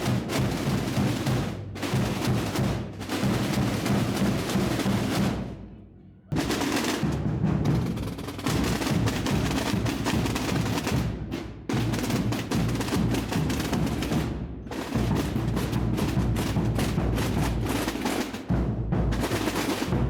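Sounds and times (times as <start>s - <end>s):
procession drums rolling: 0.0s - 5.6s, 6.3s - 20.0s.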